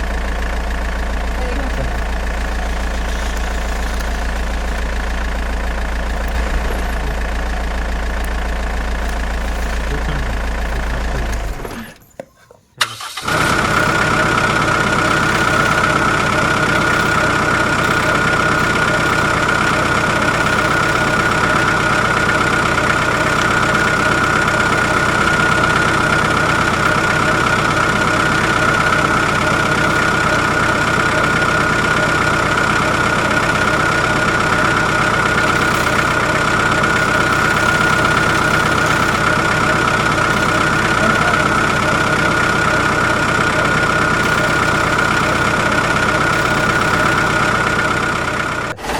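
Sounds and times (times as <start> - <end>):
motor running: 0.0 - 12.1, 12.8 - 48.9
motor with high whine: 0.0 - 12.1, 13.2 - 48.9.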